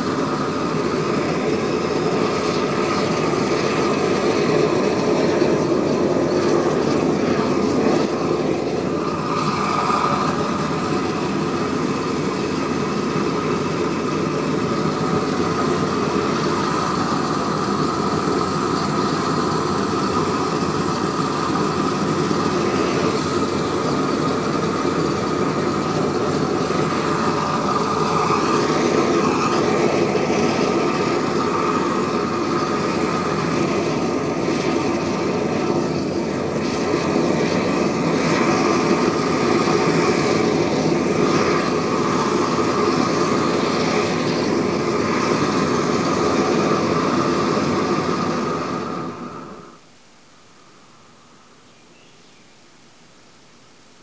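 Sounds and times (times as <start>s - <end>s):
propane torch hissing: 0.0s - 49.9s.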